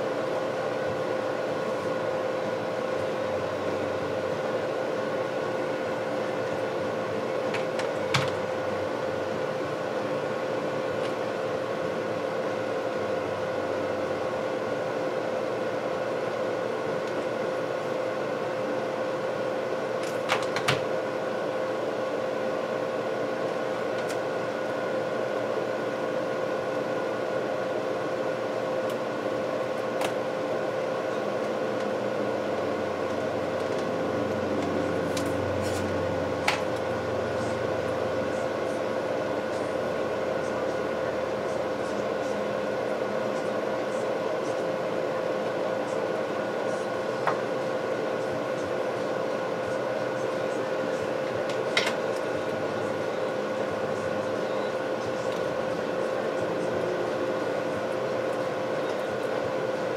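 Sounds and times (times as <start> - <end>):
machine hum with whine: 0.0 - 59.9.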